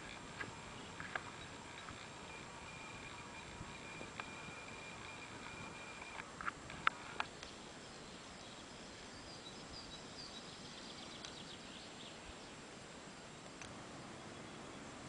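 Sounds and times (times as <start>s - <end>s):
distant birds chirping: 0.0s - 15.0s
outdoor background hiss: 0.0s - 15.0s.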